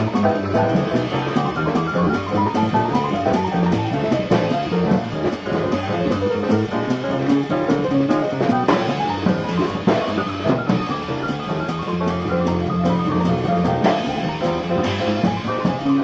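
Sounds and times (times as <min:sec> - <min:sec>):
drum kit keeping time: 0:00.0 - 0:16.0
piano: 0:00.0 - 0:16.0
upright bass: 0:00.0 - 0:16.0.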